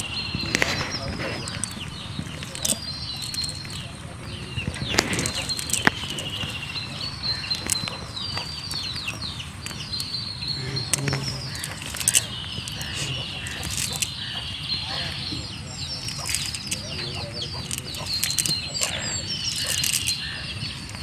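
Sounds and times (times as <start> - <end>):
sharp clicks: 0.0 - 21.0
small birds chirping: 0.0 - 21.0.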